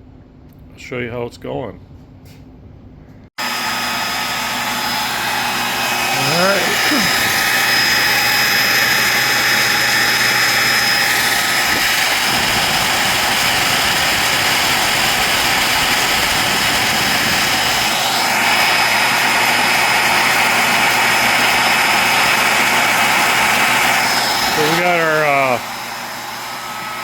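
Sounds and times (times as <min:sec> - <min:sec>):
grinder high whine and grinding hiss: 0:03.4 - 0:27.0.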